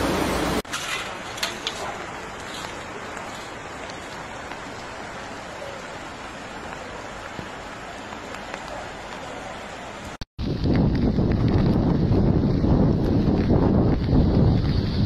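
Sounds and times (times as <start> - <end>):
floodwater running over road: 0.0 - 15.0
rain: 0.0 - 15.0.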